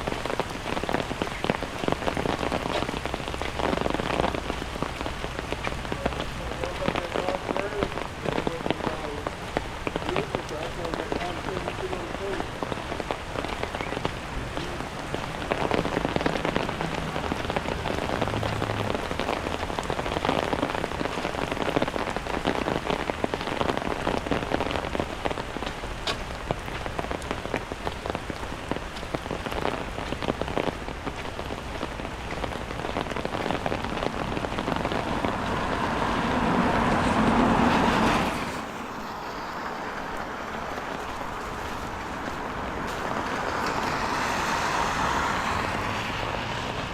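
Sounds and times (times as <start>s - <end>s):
rain on a street: 0.0s - 46.9s.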